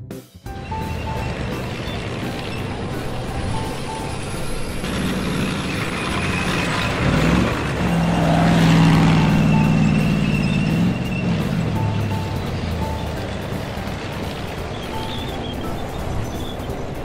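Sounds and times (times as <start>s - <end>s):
background music: 0.0s - 17.0s
droning engine tone: 0.5s - 16.9s.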